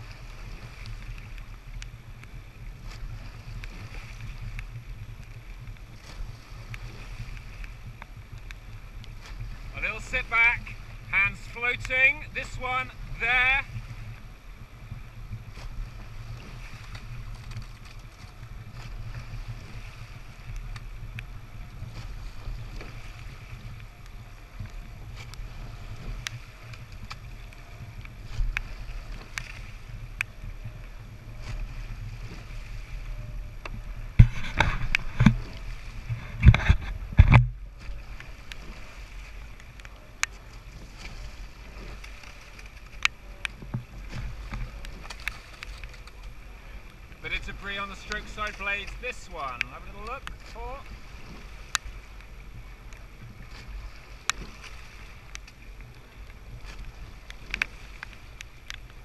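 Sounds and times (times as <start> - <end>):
rush of water: 0.0 - 59.0
wind rumble on microphone: 0.0 - 59.0.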